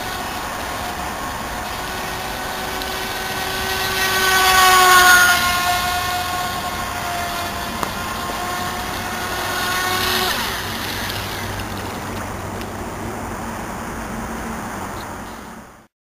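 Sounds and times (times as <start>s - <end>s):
electric motor whining: 0.0s - 12.9s
steady hiss: 0.0s - 15.9s.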